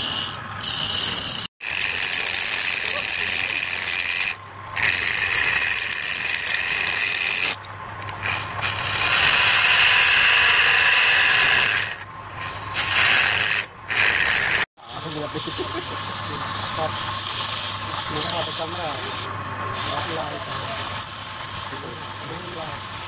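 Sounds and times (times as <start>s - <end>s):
chisel cutting spinning wood: 0.0s - 23.0s
lathe motor hum: 0.0s - 23.0s.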